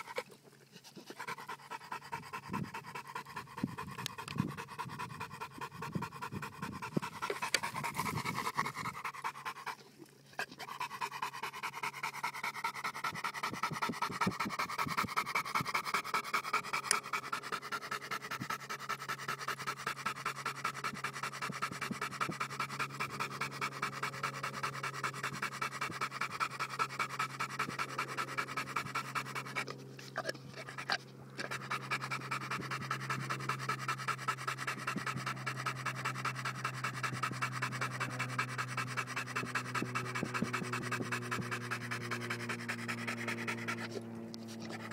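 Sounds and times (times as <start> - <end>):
dog panting heavily: 0.0 - 44.9
steady low hum: 0.0 - 44.9.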